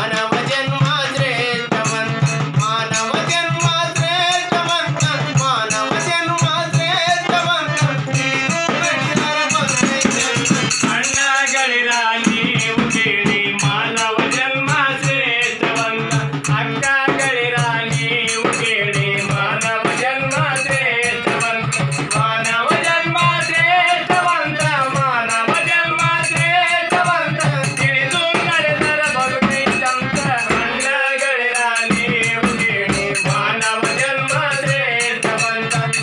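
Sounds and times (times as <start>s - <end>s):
frame drum beat: 0.0s - 36.0s
harmonium: 0.0s - 36.0s
man singing: 0.0s - 36.0s.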